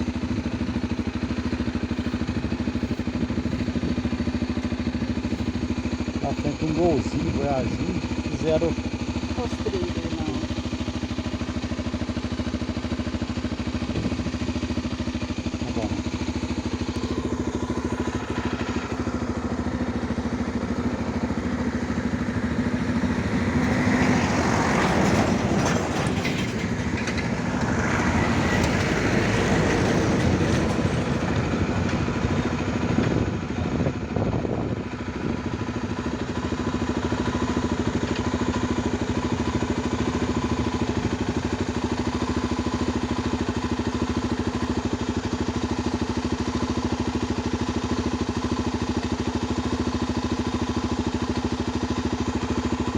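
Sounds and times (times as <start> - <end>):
rough engine noise: 0.0 - 52.9
vehicle engine humming: 0.0 - 52.9.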